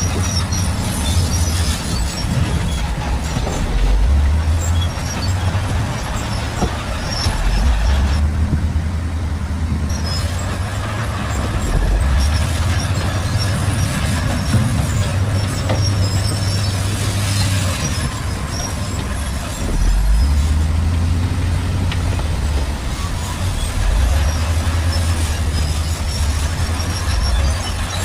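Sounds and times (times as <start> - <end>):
bulldozer diesel engine working: 0.0 - 28.0.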